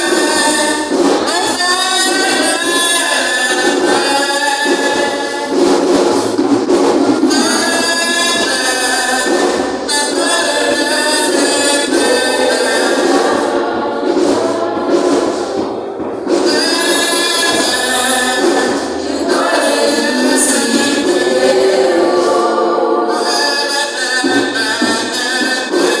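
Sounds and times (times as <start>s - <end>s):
vocal group singing a cappella: 0.0s - 26.0s.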